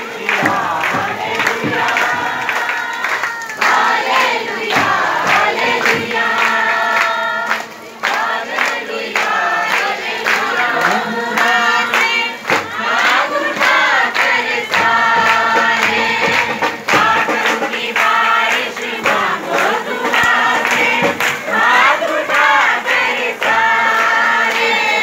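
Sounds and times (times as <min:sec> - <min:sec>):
congregation singing and calling out: 0:00.0 - 0:25.0.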